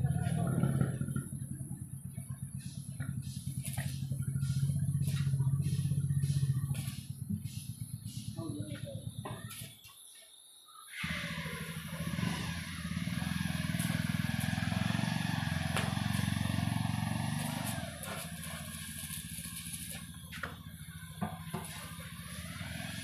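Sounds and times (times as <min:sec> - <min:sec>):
engine running: 0:00.0 - 0:09.6, 0:10.9 - 0:23.0.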